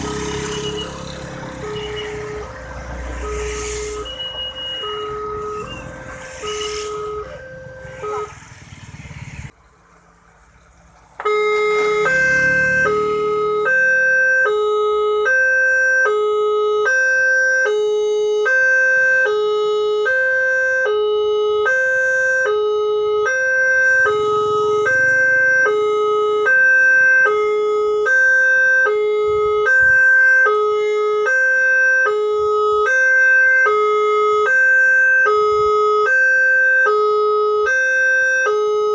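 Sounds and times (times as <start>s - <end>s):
two-tone warning siren: 0.0s - 9.5s, 11.2s - 38.9s.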